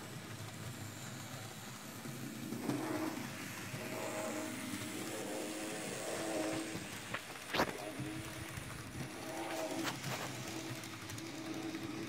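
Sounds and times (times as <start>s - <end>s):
model train motor humming: 0.0s - 12.0s.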